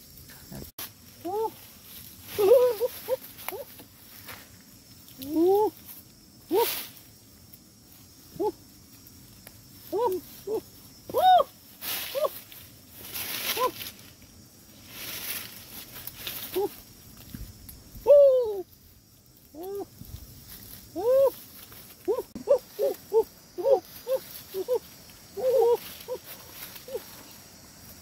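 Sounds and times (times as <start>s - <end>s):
dry grass and leaves rustling: 0.0s - 28.0s.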